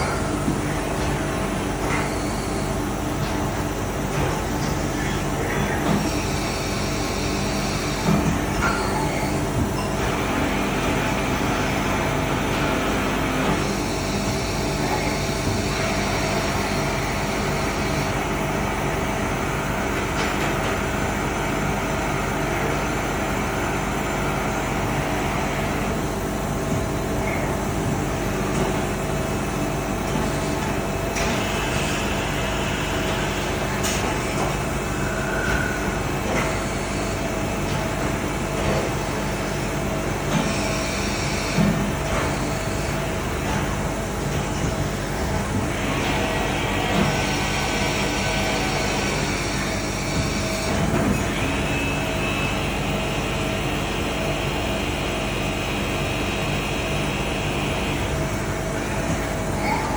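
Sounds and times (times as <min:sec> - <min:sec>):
lathe machine running: 0:09.2 - 0:59.9.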